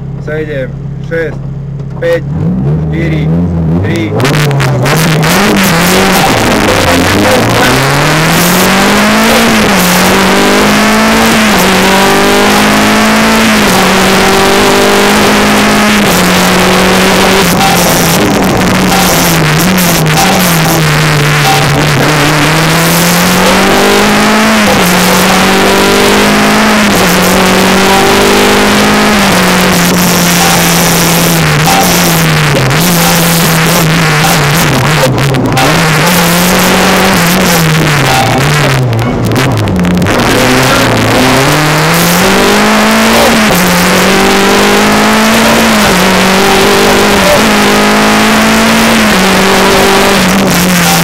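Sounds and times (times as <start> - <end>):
car engine accelerating: 0.0 - 51.0
tyre and road noise: 0.0 - 51.0.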